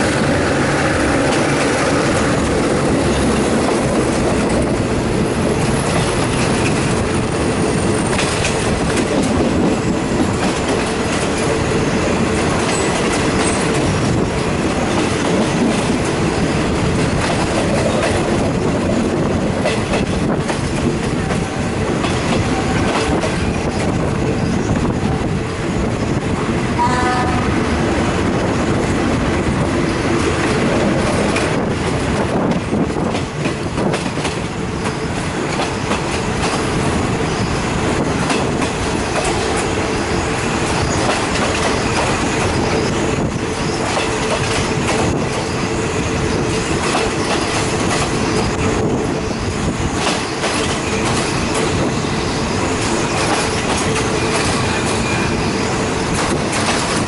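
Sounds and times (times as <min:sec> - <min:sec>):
train wheels clattering on rails: 0:00.0 - 0:26.8, 0:27.6 - 0:57.0
rushing air: 0:00.0 - 0:50.5.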